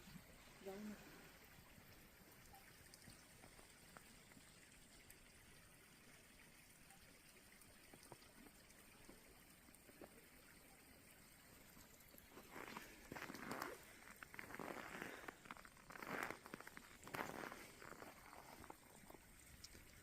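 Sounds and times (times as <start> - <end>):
faint water trickle under ice: 0.0 - 20.0.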